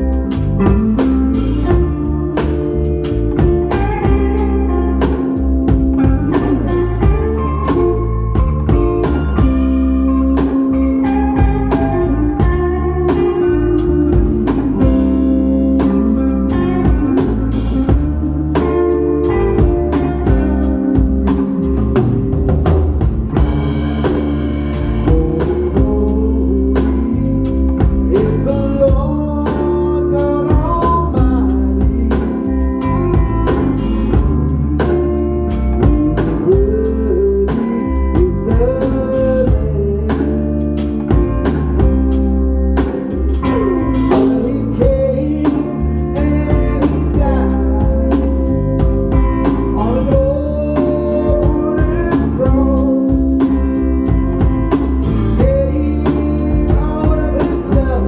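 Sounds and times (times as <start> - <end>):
bass guitar: 0.0 - 58.0
drum kit steady beat: 0.0 - 58.0
electric lead guitar: 0.0 - 58.0.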